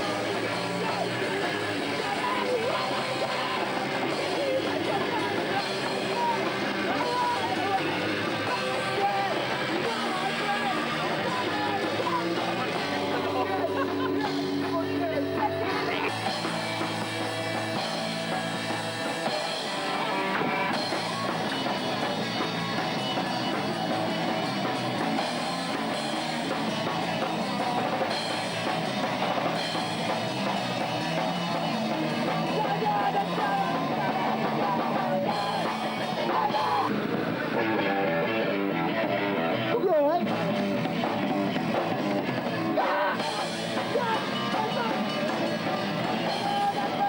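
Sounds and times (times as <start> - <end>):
drum kit: 0.0 - 47.0
electric guitar: 0.0 - 47.0
punk rock band playing: 0.0 - 47.0.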